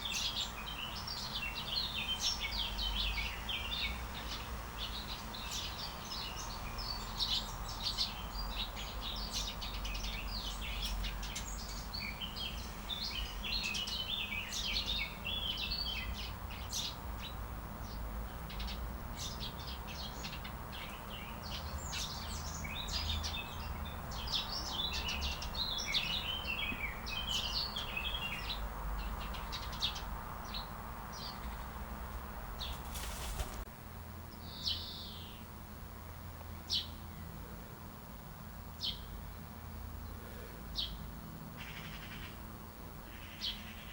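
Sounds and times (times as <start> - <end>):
songbirds chirping and twittering: 0.0 - 43.9.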